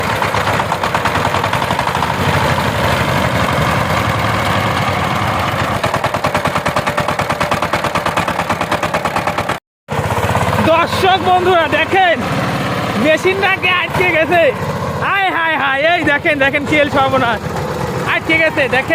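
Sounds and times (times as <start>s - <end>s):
diesel engine knocking: 0.0s - 18.9s.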